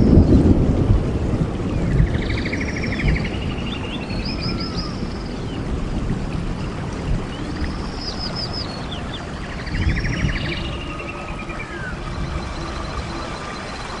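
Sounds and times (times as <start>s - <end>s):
birds chirping: 1.8s - 14.0s.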